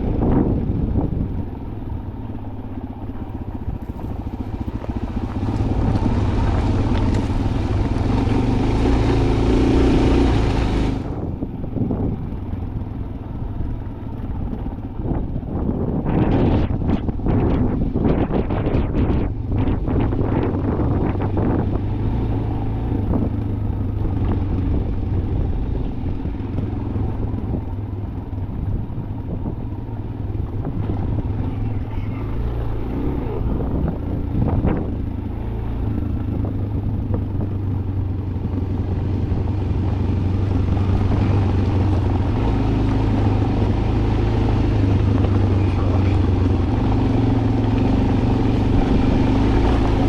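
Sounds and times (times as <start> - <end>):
vehicle engine rumbling hum: 0.0 - 50.0.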